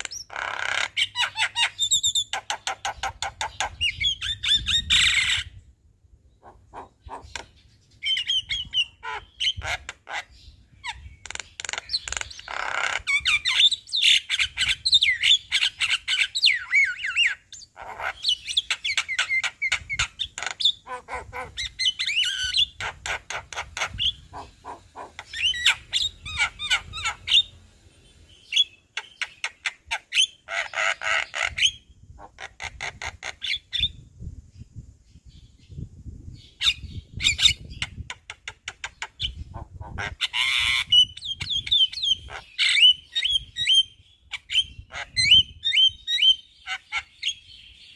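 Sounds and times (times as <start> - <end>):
myna bird singing: 0.0 - 47.9.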